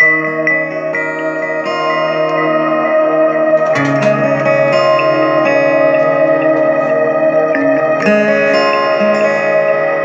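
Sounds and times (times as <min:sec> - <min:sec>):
echoing guitar notes: 0:00.0 - 0:10.0
steady held tone: 0:00.0 - 0:10.0.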